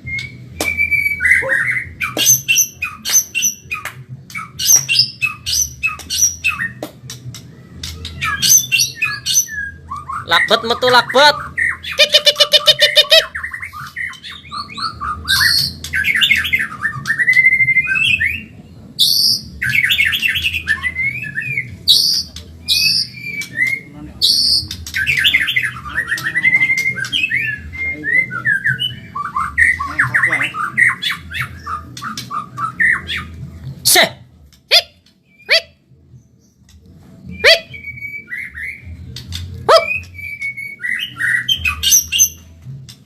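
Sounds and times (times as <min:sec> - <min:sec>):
bird singing trills and whistles: 0:00.0 - 0:33.4, 0:37.3 - 0:42.5.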